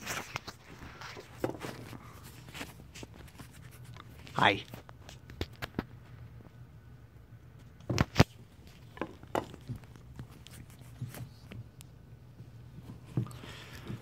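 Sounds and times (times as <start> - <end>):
kittens scuffling on carpeted stairs: 0.0 - 6.6, 7.6 - 14.0.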